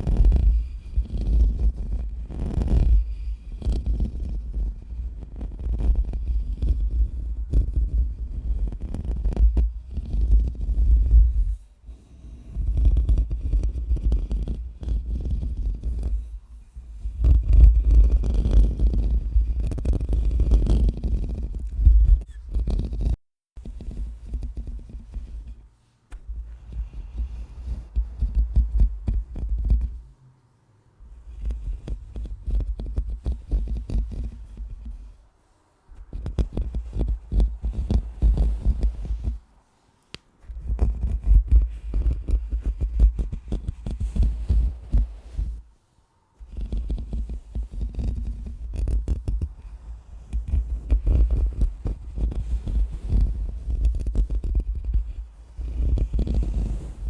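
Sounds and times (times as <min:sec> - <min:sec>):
microphone being scratched: 0:00.0 - 0:11.6, 0:12.4 - 0:30.1, 0:31.0 - 0:39.5, 0:40.4 - 0:45.6, 0:46.4 - 0:57.0.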